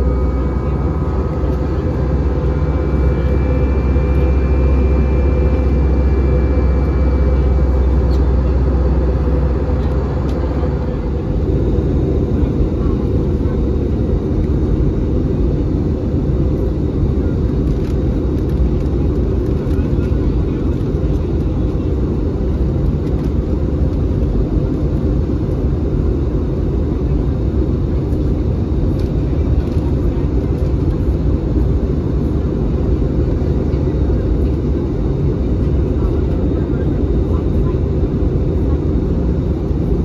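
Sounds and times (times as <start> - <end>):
jet engines droning: 0.0 - 40.0.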